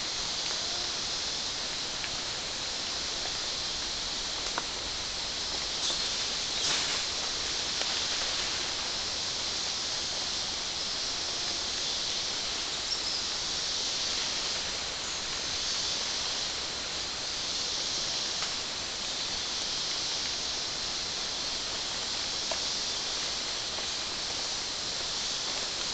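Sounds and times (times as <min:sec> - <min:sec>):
high-pitched rainforest hiss: 0:00.0 - 0:25.9.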